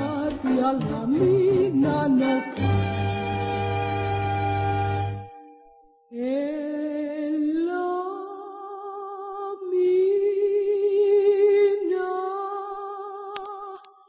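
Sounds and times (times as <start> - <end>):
woman singing with vibrato: 0.0 - 3.4, 6.1 - 14.0.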